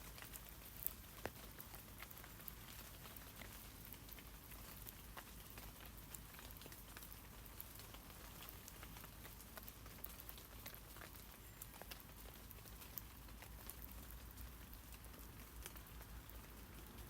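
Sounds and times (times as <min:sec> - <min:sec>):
rain on leaves: 0:00.0 - 0:17.0.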